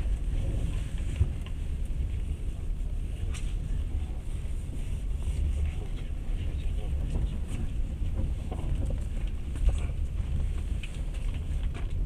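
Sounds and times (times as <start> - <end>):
train rumble from inside: 0.0 - 12.0
wheel and rail noise: 0.0 - 12.0.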